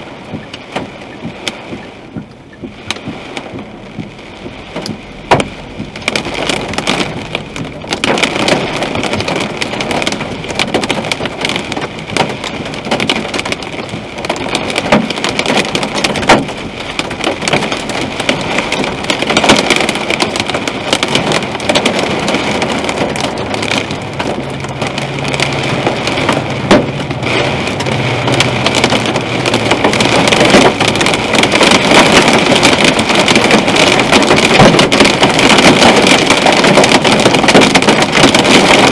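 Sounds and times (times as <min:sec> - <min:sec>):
hail and rain on car roof: 0:00.0 - 0:38.9.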